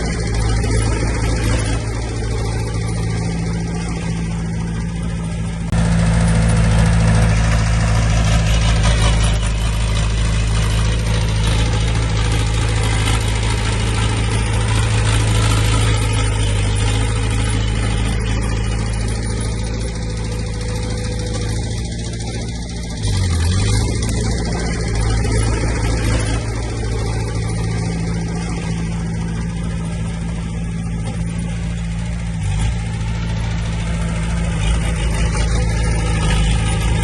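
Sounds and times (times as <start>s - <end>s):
heavy machinery diesel engine: 0.0s - 37.0s.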